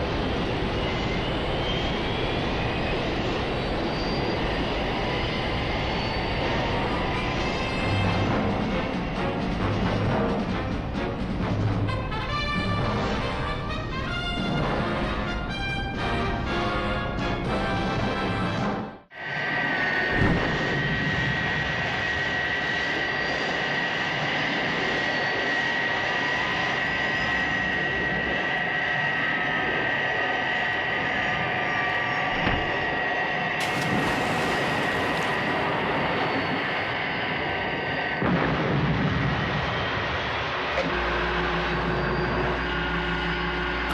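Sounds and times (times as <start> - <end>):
jet engine with high whine: 0.0 - 17.5, 19.0 - 43.9.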